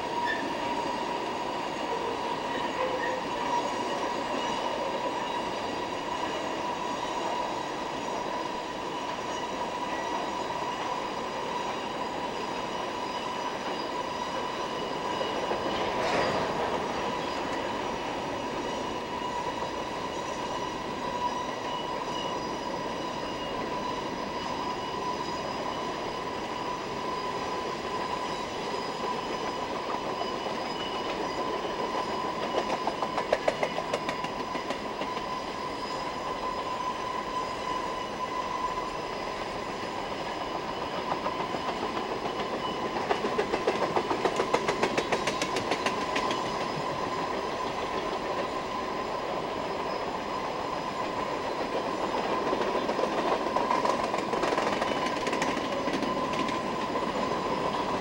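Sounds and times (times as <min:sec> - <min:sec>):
clickety-clack over rail joints: 0:00.0 - 0:36.9, 0:38.3 - 0:58.0
distant train wheels rumbling: 0:00.0 - 0:58.0.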